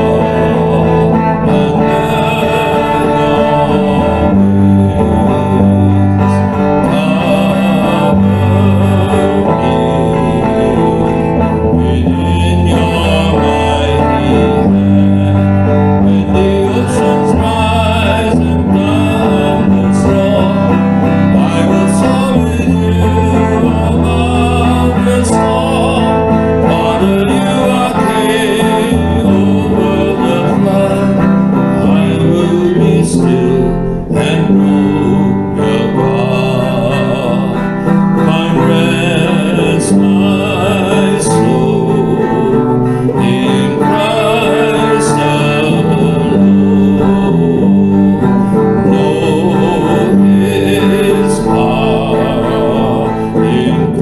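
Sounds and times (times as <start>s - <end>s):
electric guitar melody: 0.0s - 54.0s.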